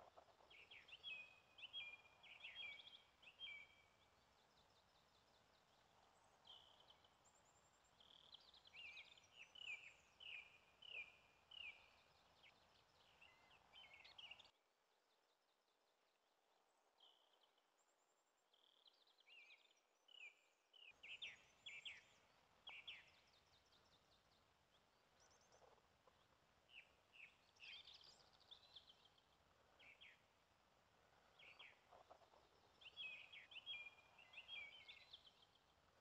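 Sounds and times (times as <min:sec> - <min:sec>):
songbirds chirping and singing: 0:00.0 - 0:16.2, 0:18.4 - 0:30.4, 0:31.1 - 0:36.0
soft background hiss: 0:00.0 - 0:36.0.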